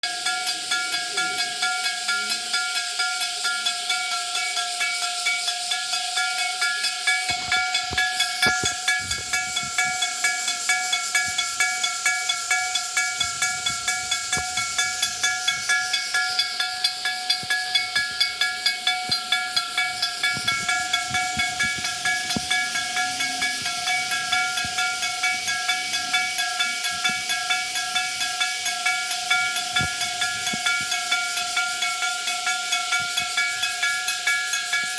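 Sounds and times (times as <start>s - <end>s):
electric warning bell ringing: 0.1s - 34.9s.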